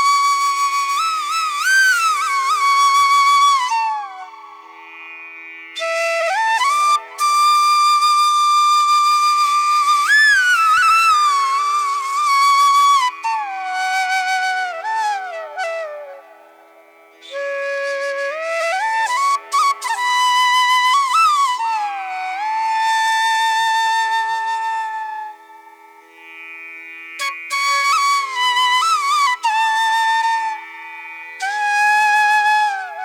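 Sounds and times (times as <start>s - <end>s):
solo flute melody: 0.0s - 26.2s, 27.2s - 33.0s.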